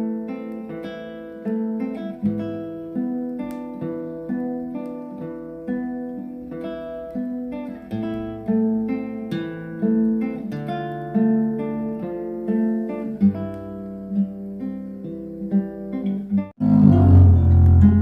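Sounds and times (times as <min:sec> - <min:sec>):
acoustic guitar plucking and strumming: 0:00.0 - 0:18.0.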